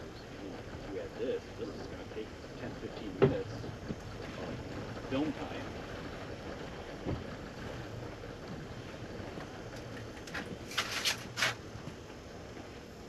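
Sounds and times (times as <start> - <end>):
steady wind: 0.0 - 13.0.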